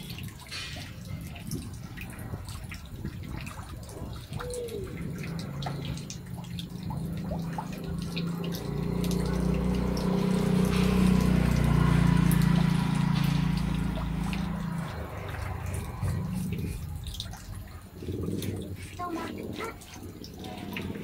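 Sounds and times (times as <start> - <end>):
water dripping on tiled floor: 0.0 - 21.0.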